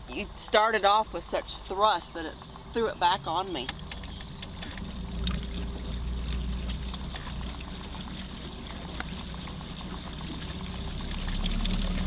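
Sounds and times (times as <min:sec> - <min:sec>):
water lapping against hull: 0:00.1 - 0:12.0.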